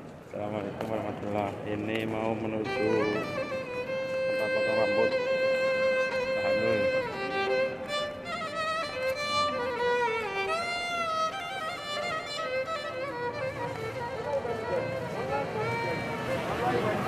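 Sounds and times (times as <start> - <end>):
violin melody: 2.0 - 17.0.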